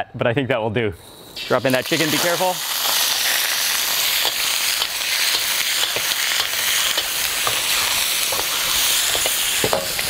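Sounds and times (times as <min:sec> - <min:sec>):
chicken frying in hot oil: 0:01.3 - 0:10.0.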